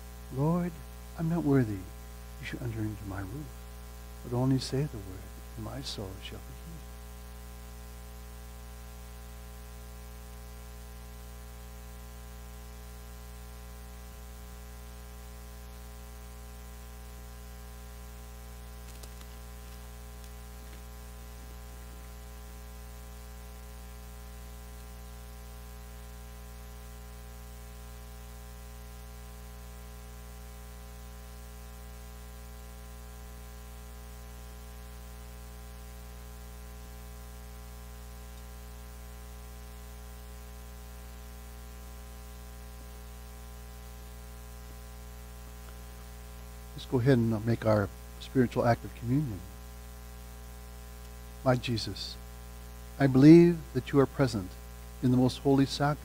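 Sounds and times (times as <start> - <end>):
electrical mains hum: 0.0 - 56.0
steady hiss: 0.0 - 56.0.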